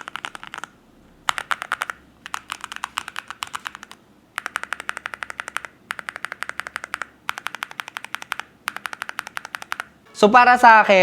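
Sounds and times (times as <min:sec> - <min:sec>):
typing on mechanical keyboard: 0:00.0 - 0:10.0.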